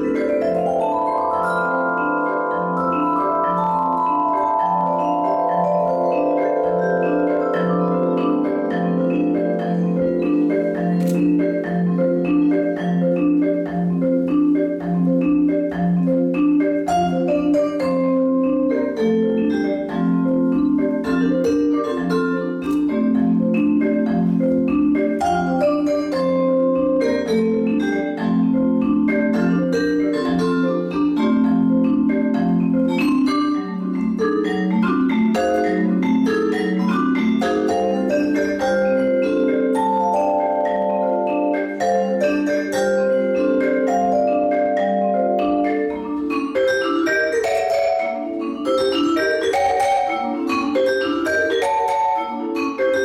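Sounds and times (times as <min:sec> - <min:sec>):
vibraphone and marimba playing: 0:00.0 - 0:53.0.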